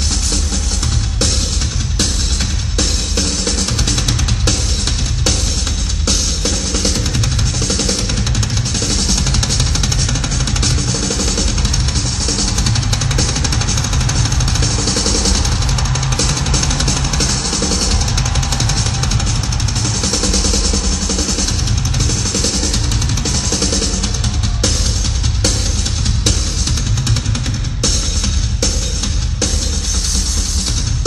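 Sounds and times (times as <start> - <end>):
loud rock music: 0.0 - 31.0
rapid bass drum strokes: 0.0 - 31.0.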